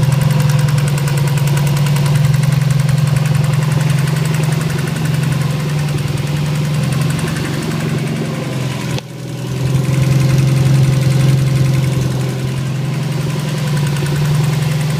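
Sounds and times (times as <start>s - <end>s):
car engine idling: 0.0s - 14.9s
rapid engine tapping: 0.0s - 14.9s.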